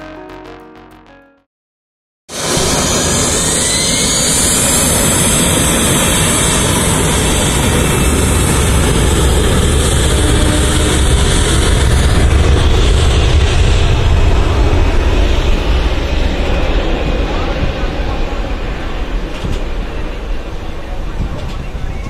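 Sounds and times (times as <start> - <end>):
jet engines whining: 2.3 - 22.0
moving train rumble: 2.3 - 22.0.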